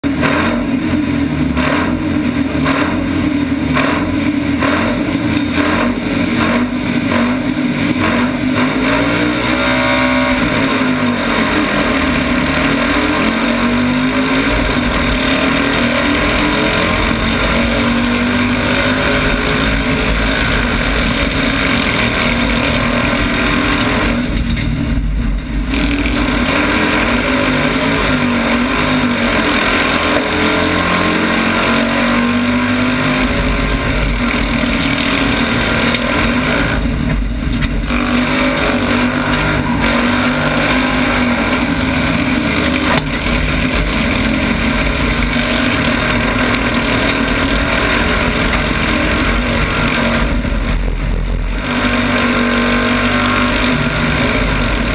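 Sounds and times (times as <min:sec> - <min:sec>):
car engine running hard: 0:00.0 - 0:54.9.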